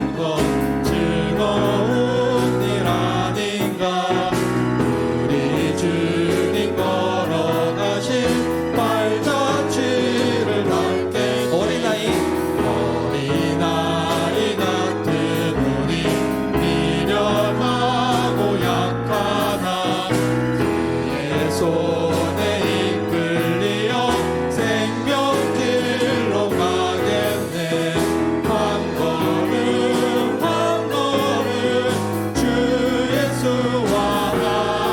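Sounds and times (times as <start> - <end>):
worship song played and sung: 0.0 - 34.9.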